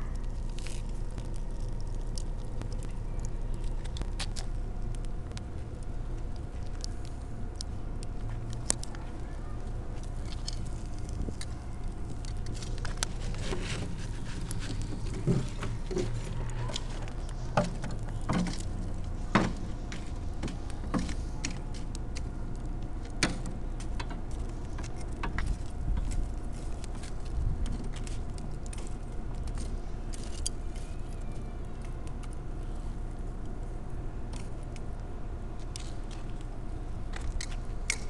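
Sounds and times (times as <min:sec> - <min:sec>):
low rumble: 0:00.0 - 0:38.0.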